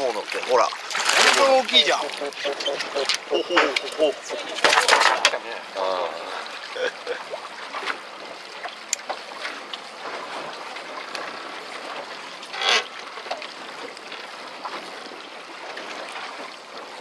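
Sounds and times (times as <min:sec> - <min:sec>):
water sloshing against hull: 0:00.0 - 0:17.0.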